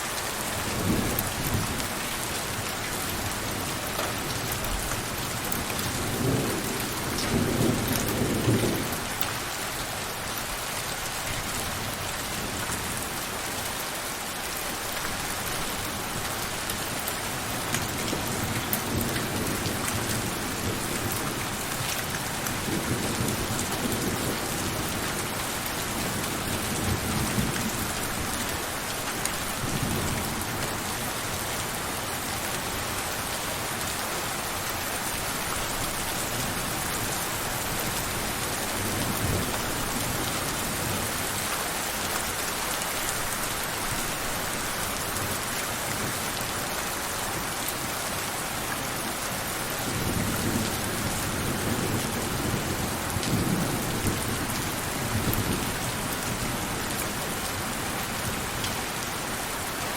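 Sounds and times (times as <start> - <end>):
steady rain pouring: 0.0 - 59.9.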